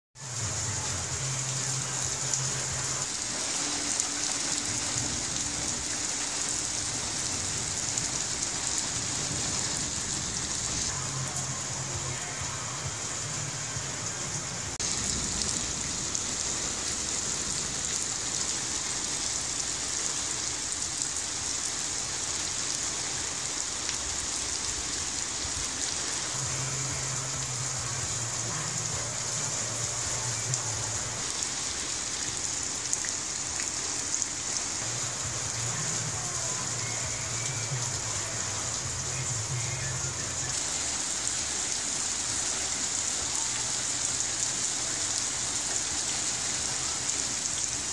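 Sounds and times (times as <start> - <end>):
rain on pavement: 0.2 - 47.9.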